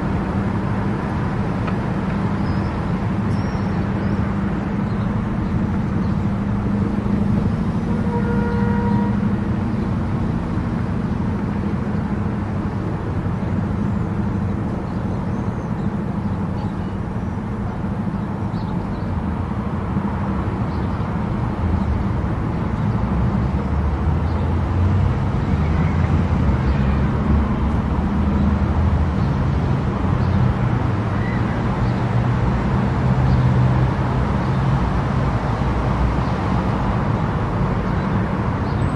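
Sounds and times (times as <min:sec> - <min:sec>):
car engine hum: 0:00.0 - 0:38.9
tyre and road noise: 0:00.0 - 0:38.9.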